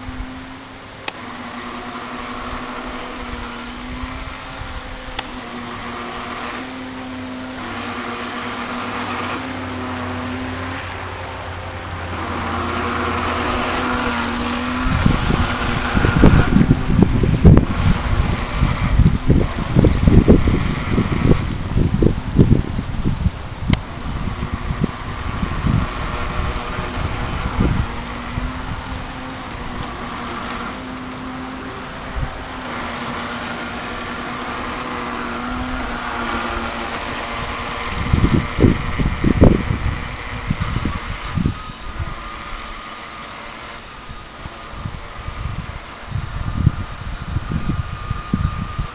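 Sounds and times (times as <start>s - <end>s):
toy boat motor whining: 0.0s - 48.9s
wind buffeting microphone: 0.0s - 48.9s.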